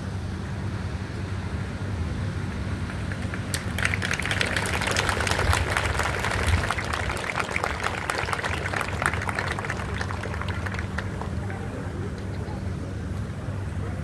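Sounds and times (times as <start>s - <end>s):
fire truck engines humming: 0.0s - 14.0s.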